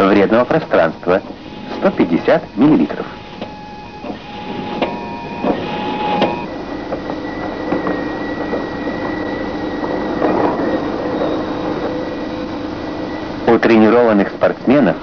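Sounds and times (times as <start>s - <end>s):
steady humming tones: 0.0s - 15.0s.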